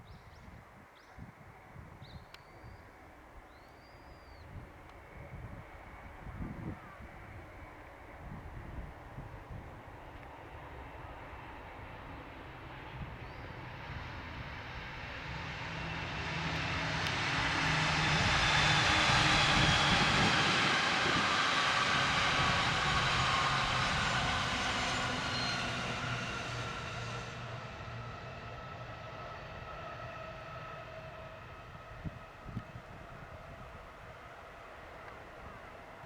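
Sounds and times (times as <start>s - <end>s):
electric train passing: 4.6s - 36.0s.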